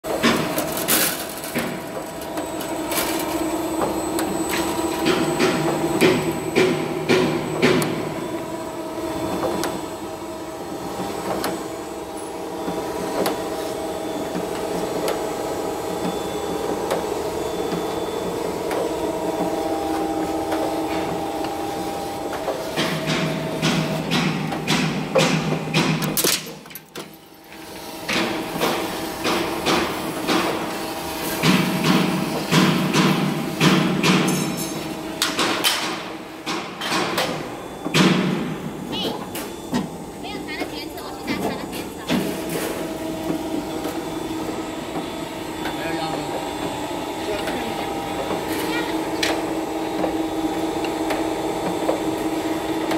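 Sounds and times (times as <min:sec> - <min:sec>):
machine humming: 0:00.1 - 0:52.9.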